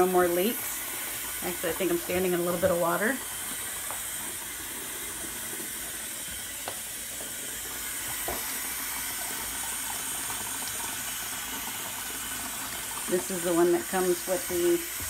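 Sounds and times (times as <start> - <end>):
water rushing into plastic tub: 0.0 - 15.0.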